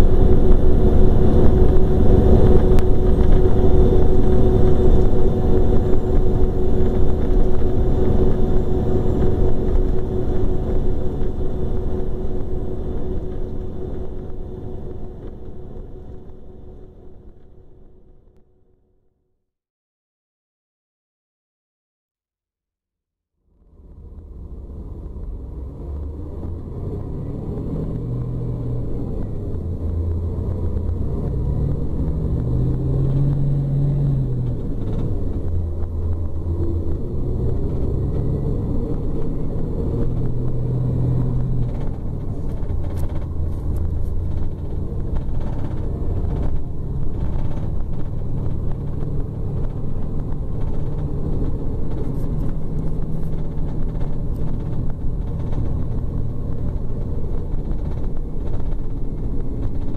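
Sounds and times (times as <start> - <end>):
diesel bus engine running: 0.0 - 18.3, 23.7 - 59.9.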